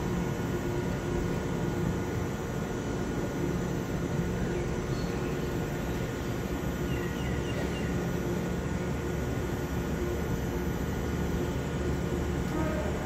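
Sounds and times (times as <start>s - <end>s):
electric train hum and hiss: 0.0s - 13.0s
faint constant tone: 0.0s - 13.0s.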